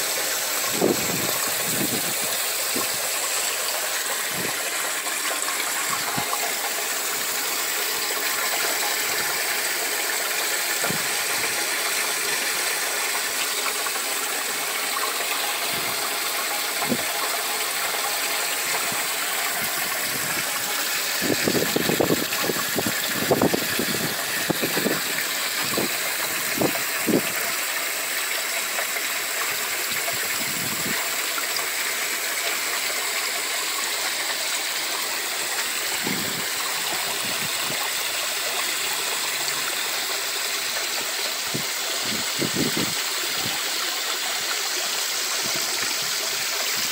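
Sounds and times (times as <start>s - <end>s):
flowing water: 0.0s - 46.9s
water gurgling down a pipe: 0.0s - 46.9s.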